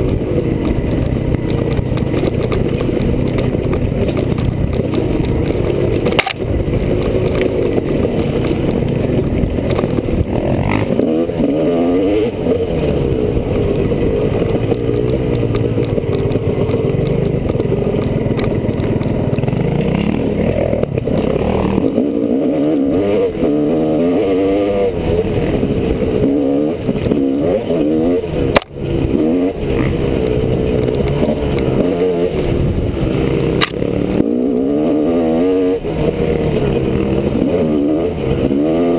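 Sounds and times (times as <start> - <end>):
clatter: 0.0 - 38.9
dirt bike engine revving: 0.0 - 38.9.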